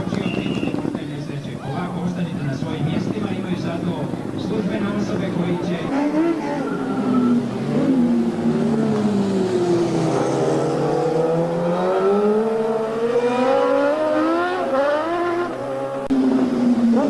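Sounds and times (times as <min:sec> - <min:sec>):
racing motorcycle engines accelerating: 0:00.0 - 0:17.0.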